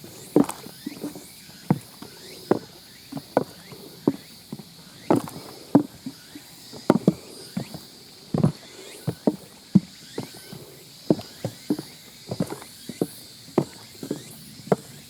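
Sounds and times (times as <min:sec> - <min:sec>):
footsteps on trail: 0:00.0 - 0:15.0.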